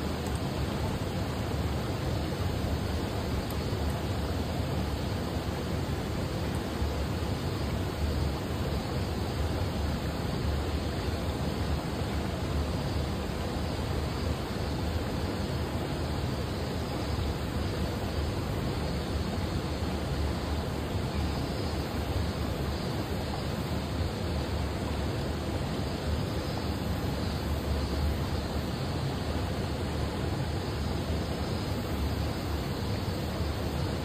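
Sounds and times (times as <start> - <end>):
outdoor rushing hiss: 0.0 - 34.0.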